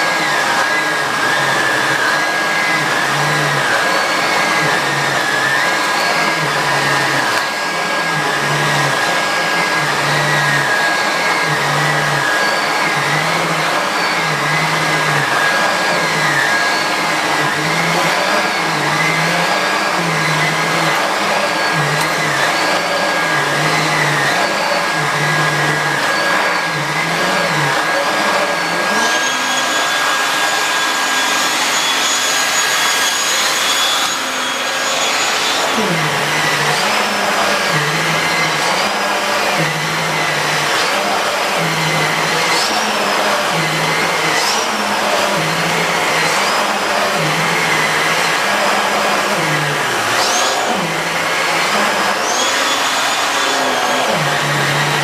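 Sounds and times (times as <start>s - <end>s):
vacuum cleaner on a rug: 0.0s - 55.0s.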